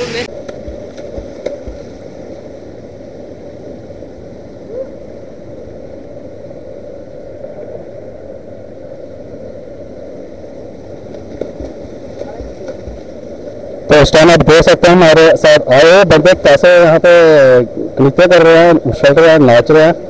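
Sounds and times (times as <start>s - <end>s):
muffled stream and waterfall: 0.0s - 20.0s.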